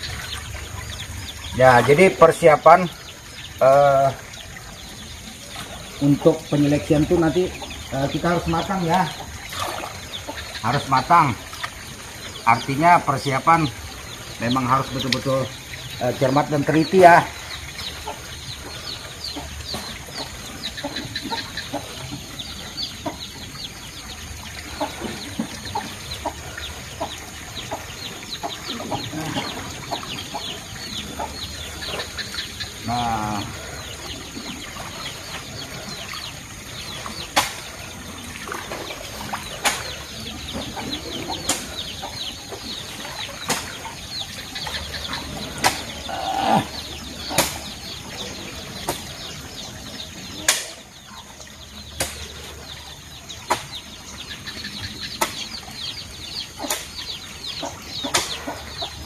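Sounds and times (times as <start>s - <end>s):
chickens clucking: 0.0s - 59.0s
water splashing and sloshing: 0.0s - 59.0s.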